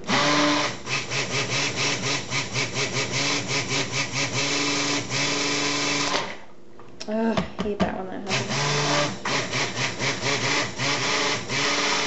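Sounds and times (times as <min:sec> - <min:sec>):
stick blender motor pulsing: 0:00.0 - 0:06.4, 0:08.3 - 0:12.0.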